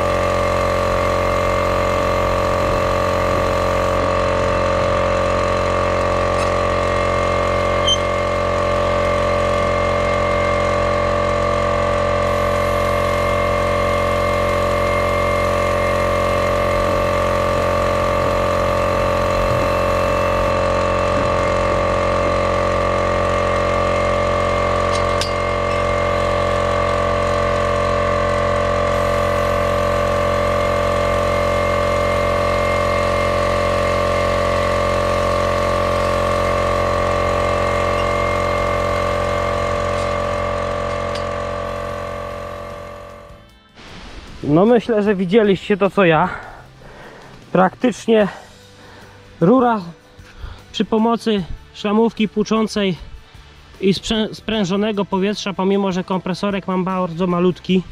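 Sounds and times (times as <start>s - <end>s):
air compressor humming: 0.0s - 57.9s.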